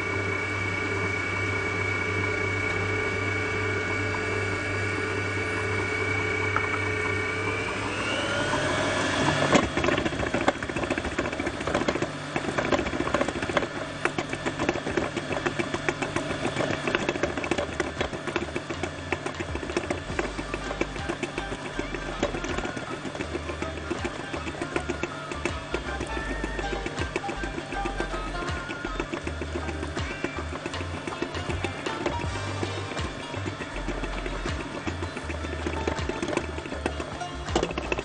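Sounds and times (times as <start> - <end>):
fast irregular rattle: 0.0 - 38.0
stand mixer motor humming: 0.0 - 38.0.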